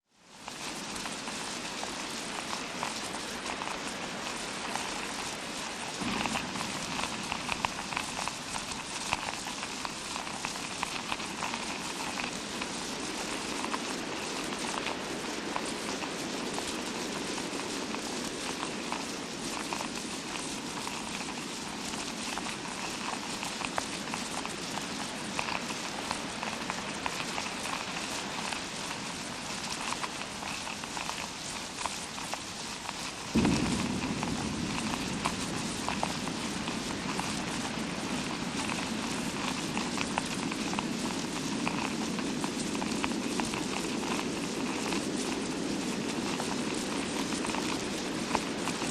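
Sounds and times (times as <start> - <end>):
rain sound effect patter: 0.0 - 48.9.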